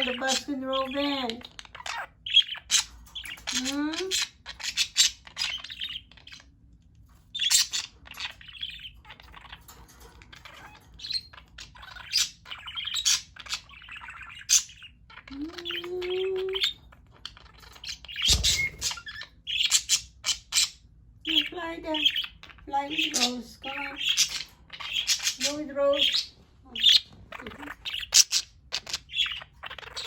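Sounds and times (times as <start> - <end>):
budgerigars chirping: 0.0 - 30.0.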